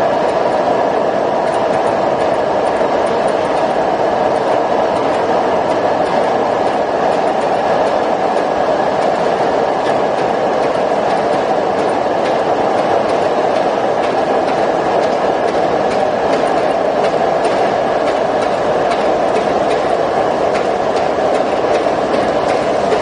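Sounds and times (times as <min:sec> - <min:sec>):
machinery running: 0:00.0 - 0:23.0.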